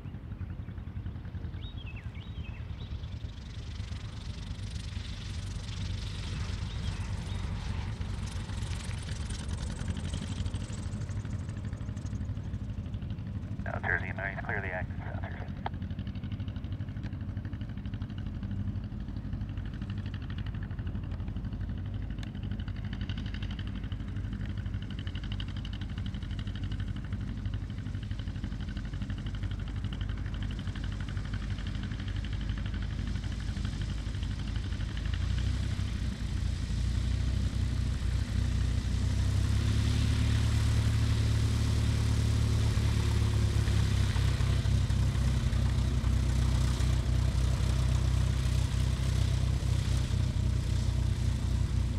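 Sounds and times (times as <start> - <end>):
airplane engine and propeller: 0.0 - 51.9.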